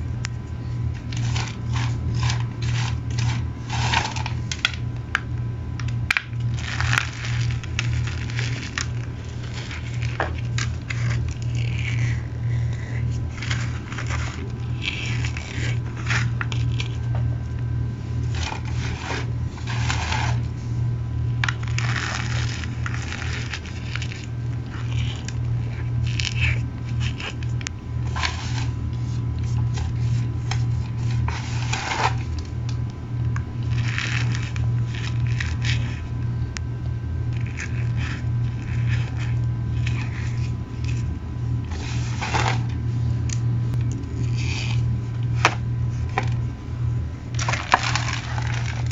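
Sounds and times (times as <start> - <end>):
steady low hum: 0.0 - 48.9
cornstarch crunching by hand: 0.6 - 17.6, 18.2 - 20.6, 21.2 - 36.6, 37.2 - 46.5, 47.3 - 48.9.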